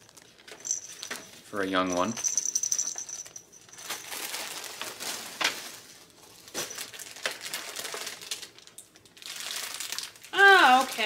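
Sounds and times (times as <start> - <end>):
plastic bags and paper rustling: 0.0 - 2.1, 2.7 - 11.0.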